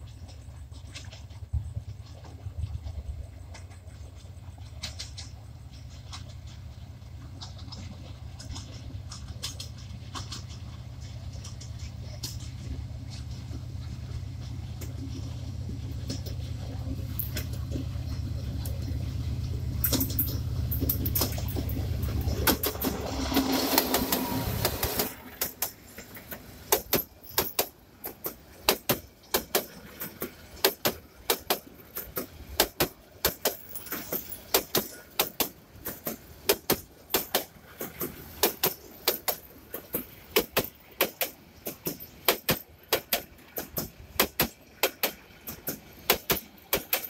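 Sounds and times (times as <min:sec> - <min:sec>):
diesel locomotive rumble: 0:00.0 - 0:47.0
wheels clacking over rail joints: 0:00.0 - 0:47.0.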